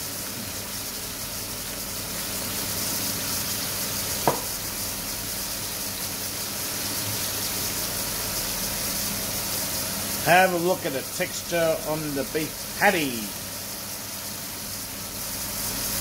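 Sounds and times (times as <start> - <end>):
patties sizzling in a frying pan: 0.0 - 16.0.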